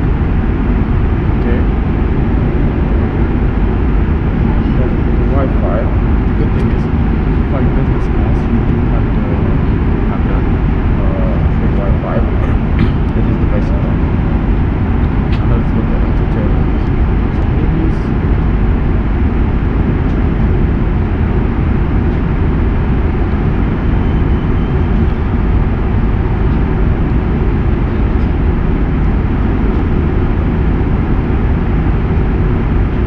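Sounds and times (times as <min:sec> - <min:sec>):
airplane cabin engine noise: 0:00.0 - 0:33.0.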